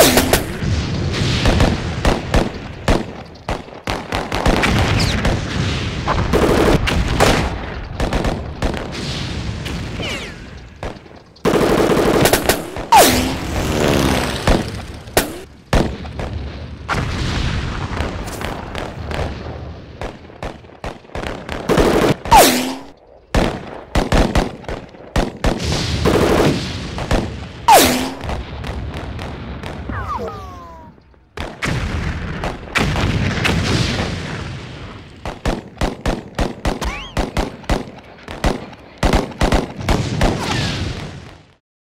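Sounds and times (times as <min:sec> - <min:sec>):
rifle and machine-gun fire: 0:00.0 - 0:30.0, 0:31.3 - 0:41.5.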